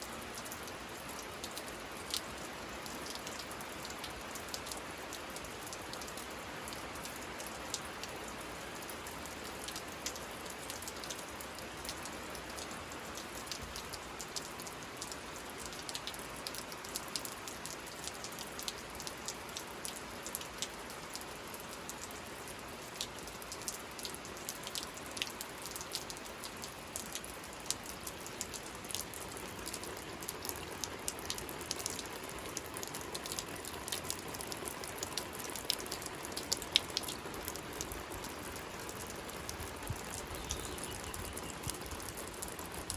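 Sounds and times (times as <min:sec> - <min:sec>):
raindrops ticking close by: 0:00.0 - 0:42.9
steady rain: 0:00.0 - 0:42.9.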